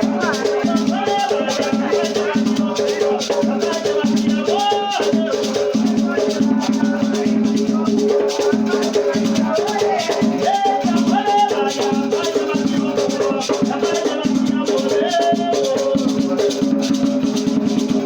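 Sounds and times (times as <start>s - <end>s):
drums: 0.0s - 18.0s
shaken rattle: 0.0s - 18.0s
voices singing: 0.0s - 18.0s.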